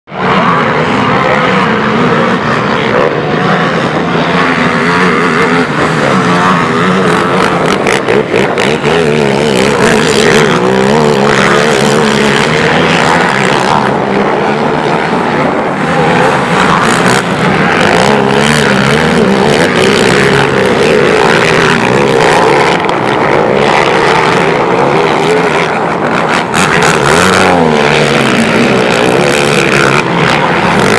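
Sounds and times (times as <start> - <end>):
quad engines revving hard: 0.1 - 30.9.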